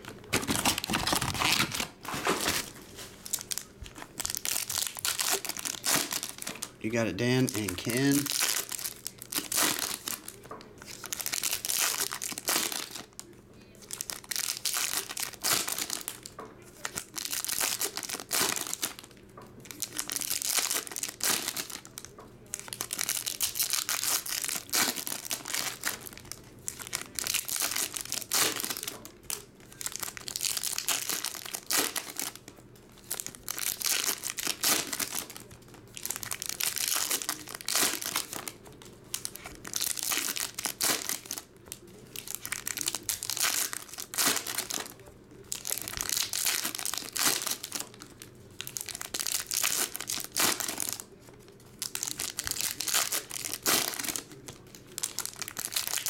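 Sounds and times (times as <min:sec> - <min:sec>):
foil wrappers tearing and crinkling: 0:00.1 - 0:56.0.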